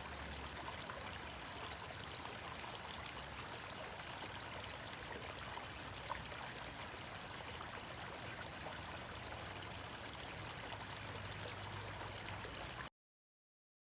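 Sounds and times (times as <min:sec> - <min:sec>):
brook babbling over stones: 0:00.0 - 0:12.9.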